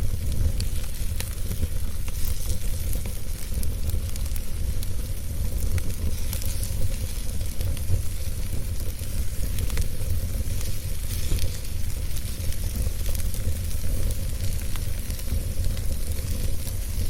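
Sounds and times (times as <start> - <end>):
fire burning with low rumble: 0.0 - 17.0
fire crackles and pops: 0.0 - 17.0.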